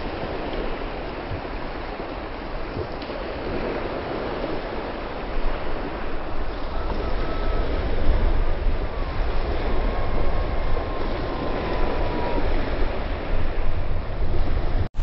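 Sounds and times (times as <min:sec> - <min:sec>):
small waves breaking on beach: 0:00.0 - 0:15.0
wind rumble on microphone: 0:00.0 - 0:15.0.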